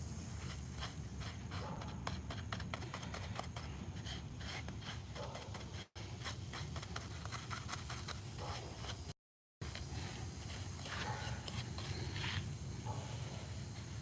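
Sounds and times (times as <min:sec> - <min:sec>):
paintbrush scratching concrete: 0:00.3 - 0:14.0.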